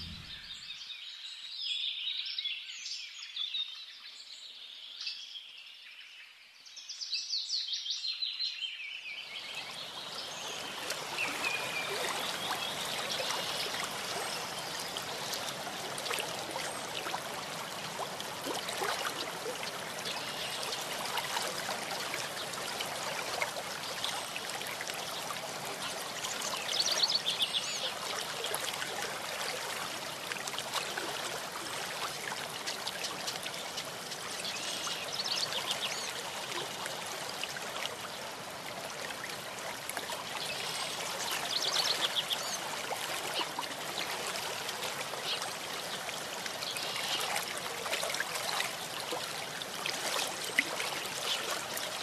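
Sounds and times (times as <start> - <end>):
stream babbling: 9.5 - 52.0.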